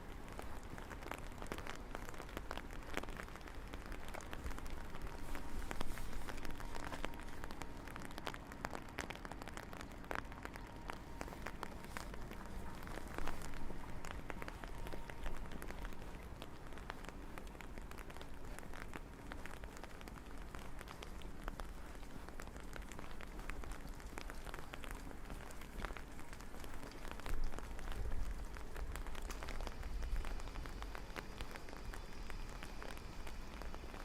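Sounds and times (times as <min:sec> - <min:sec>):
raindrops ticking: 0:00.0 - 0:34.0
steady rain falling: 0:00.0 - 0:34.0.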